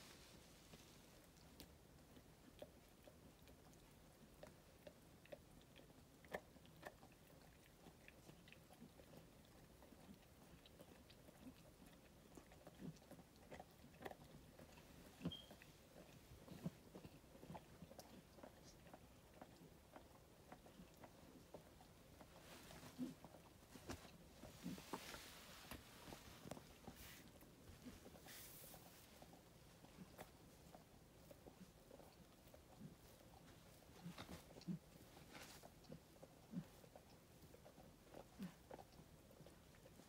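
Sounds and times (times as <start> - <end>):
dog licking with wet clicks: 0.8 - 40.0.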